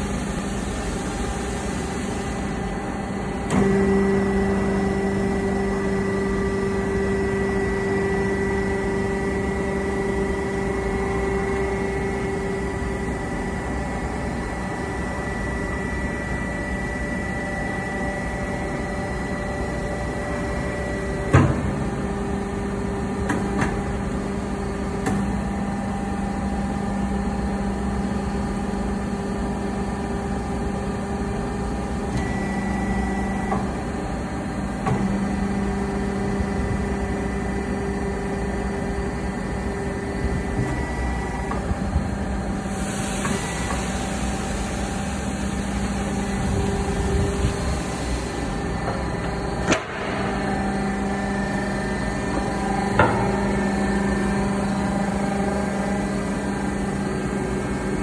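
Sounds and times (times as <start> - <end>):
hydraulic press motor humming: 0.0 - 58.0.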